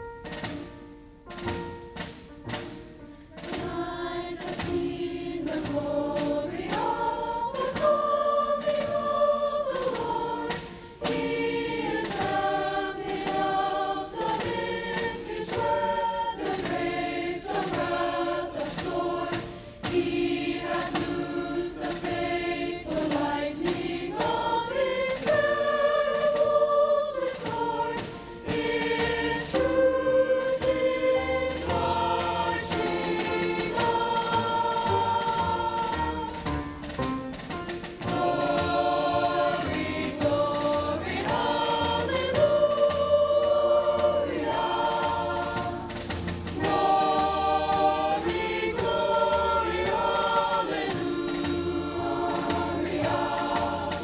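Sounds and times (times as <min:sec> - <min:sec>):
piano accompaniment: 0:00.0 - 0:54.0
choir singing: 0:03.4 - 0:36.7, 0:37.9 - 0:54.0.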